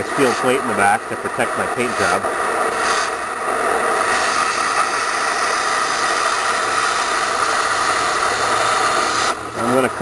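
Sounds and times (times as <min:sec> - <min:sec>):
cutting torch hissing: 0:00.0 - 0:10.0.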